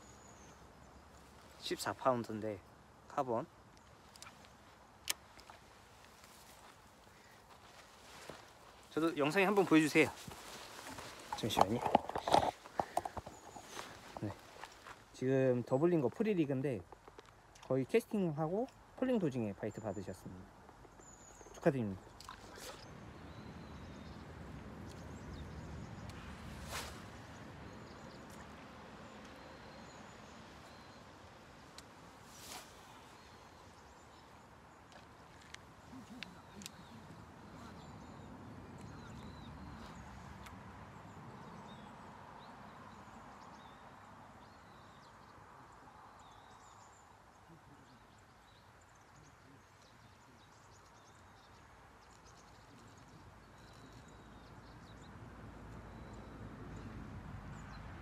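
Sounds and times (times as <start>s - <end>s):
low outdoor background noise: 0.0s - 58.0s.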